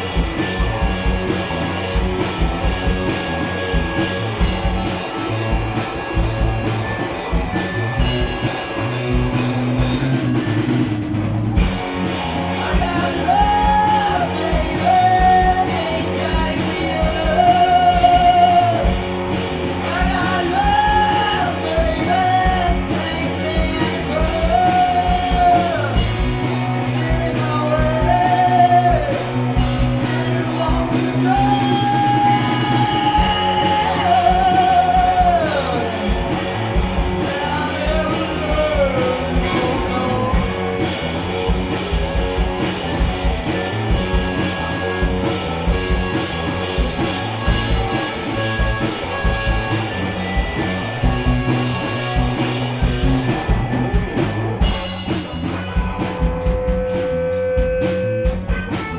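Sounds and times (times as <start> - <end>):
rock band with accordion: 0.0 - 58.9.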